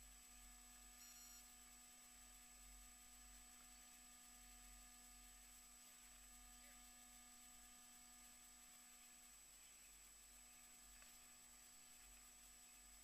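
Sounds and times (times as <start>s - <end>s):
faint steady hum: 0.0s - 13.0s
low hiss: 0.0s - 13.0s
thin high-pitched whine: 0.0s - 13.0s.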